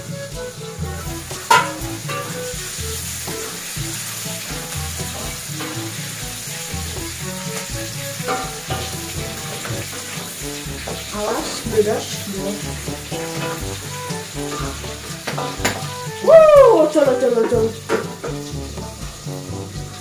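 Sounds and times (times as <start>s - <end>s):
spatula stirring in wok: 0.0s - 16.3s
chilies sizzling in hot oil: 0.0s - 20.0s.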